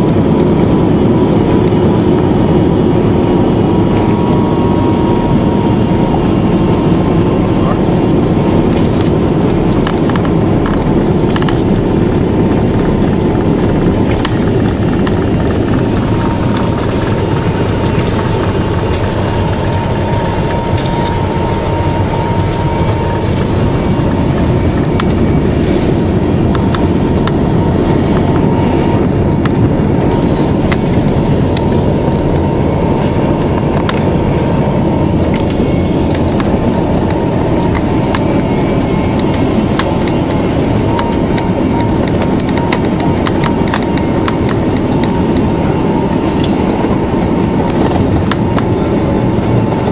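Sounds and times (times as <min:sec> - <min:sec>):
radial engines droning: 0:00.0 - 0:49.9.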